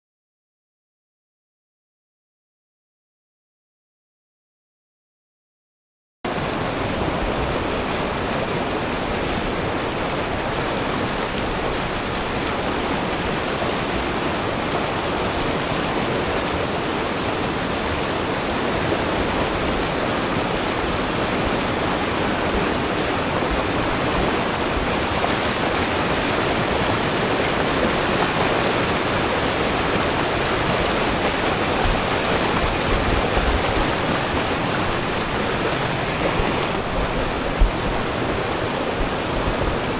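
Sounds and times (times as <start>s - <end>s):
whitewater rushing over boulders: 6.3s - 39.9s.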